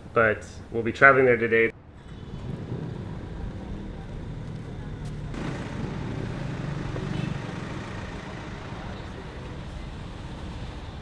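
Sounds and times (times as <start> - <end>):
vehicle road noise: 1.7 - 11.0.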